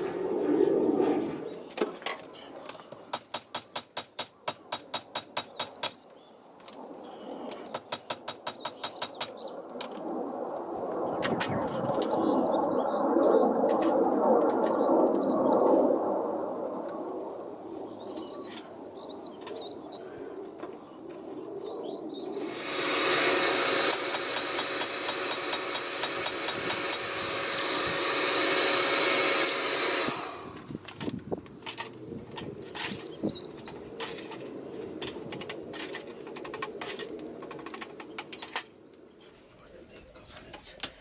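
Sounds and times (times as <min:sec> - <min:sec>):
birds chirping: 0:01.3 - 0:10.0, 0:11.1 - 0:13.9, 0:14.6 - 0:27.8, 0:31.9 - 0:41.0.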